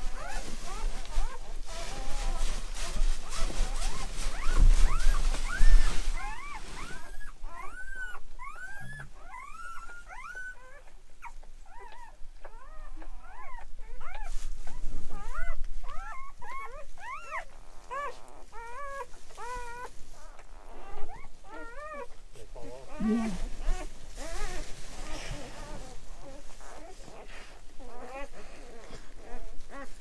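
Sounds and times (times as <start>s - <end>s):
puppies whimpering: 0.1s - 30.0s.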